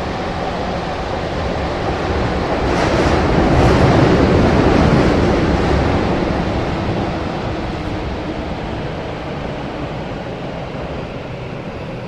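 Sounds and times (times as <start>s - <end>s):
wheels rushing on rail: 0.0s - 12.0s.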